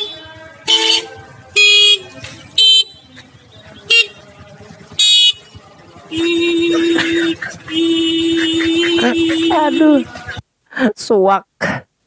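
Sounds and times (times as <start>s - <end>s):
motorcycle horn beeps: 0.0s - 10.4s.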